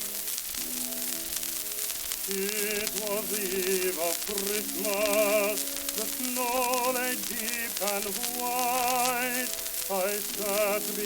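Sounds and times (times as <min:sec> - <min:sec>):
old phonograph music: 0:00.0 - 0:11.0
record surface hiss and crackle: 0:00.0 - 0:11.0.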